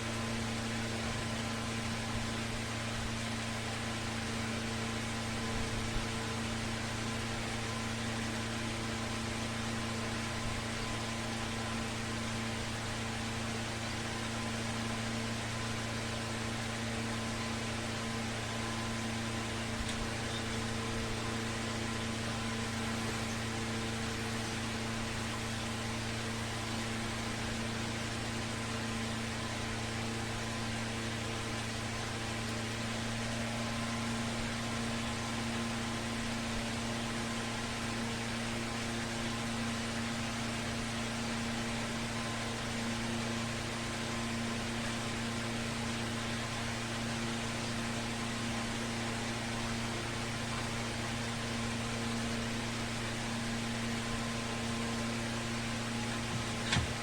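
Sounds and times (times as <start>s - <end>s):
ceiling fan motor humming: 0.0s - 57.0s.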